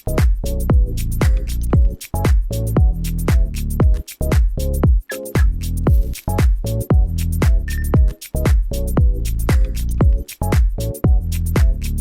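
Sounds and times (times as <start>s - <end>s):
bass drum hits: 0.0s - 11.8s.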